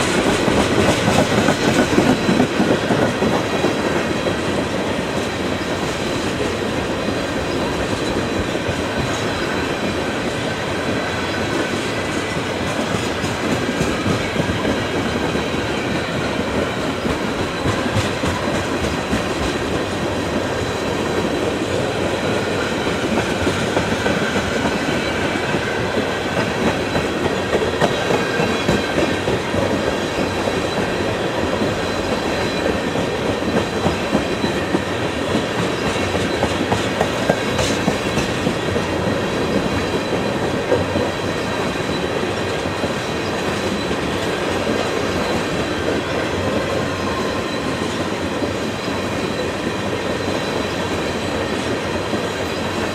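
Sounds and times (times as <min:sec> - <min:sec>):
clickety-clack over rail joints: 0:00.0 - 0:52.9
train wheels rolling on rails: 0:00.0 - 0:52.9.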